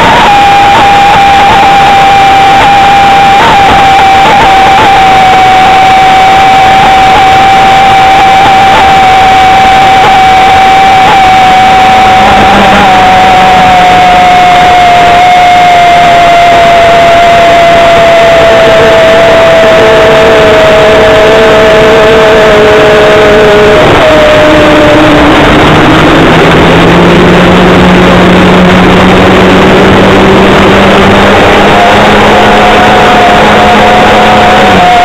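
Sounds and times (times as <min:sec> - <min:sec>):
wind rush on microphone: 0:00.0 - 0:35.0.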